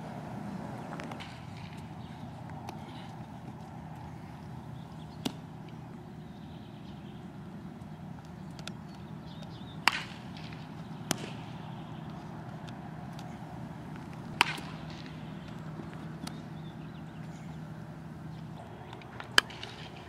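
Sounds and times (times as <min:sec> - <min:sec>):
steady background hum: 0:00.0 - 0:20.0
baseball cracks: 0:00.3 - 0:20.0.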